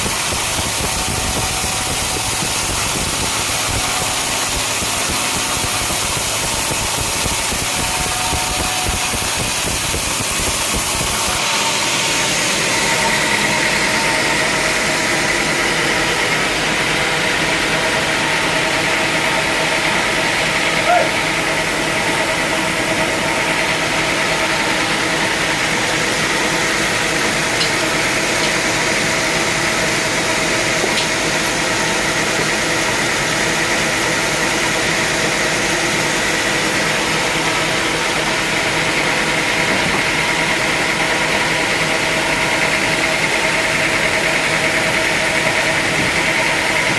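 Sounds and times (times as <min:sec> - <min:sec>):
sawmill motor humming: 0:00.0 - 0:46.9.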